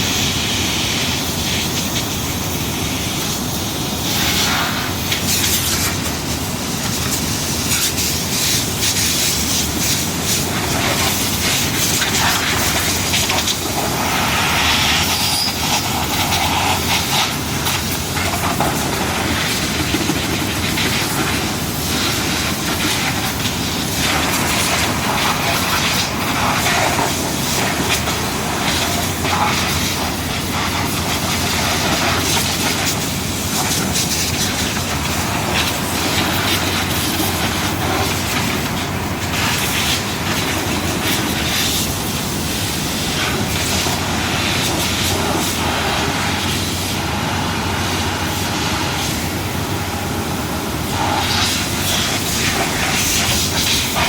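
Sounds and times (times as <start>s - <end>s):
machinery noise: 0.0s - 54.0s.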